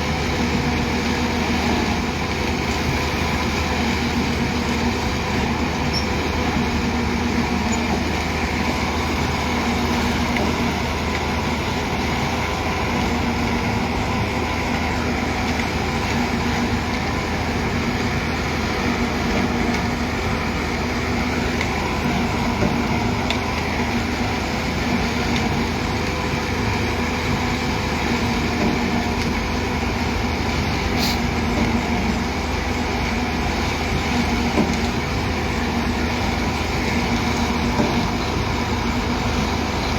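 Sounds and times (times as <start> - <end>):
heavy diesel machinery drone: 0.0 - 39.9.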